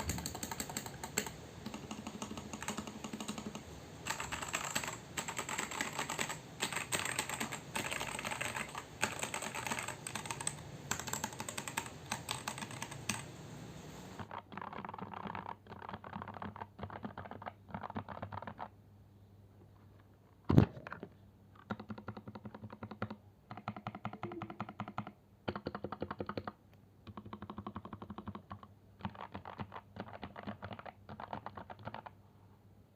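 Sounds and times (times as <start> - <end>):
mechanical keyboard typing: 0.0 - 13.3, 14.2 - 18.7, 21.6 - 32.2.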